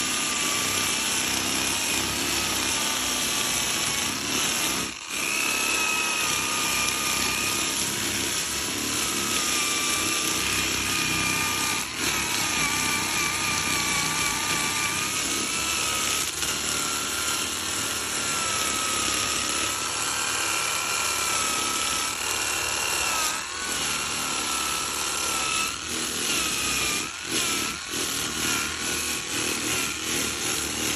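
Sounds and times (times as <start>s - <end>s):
power tool whining on wood: 0.0s - 30.9s.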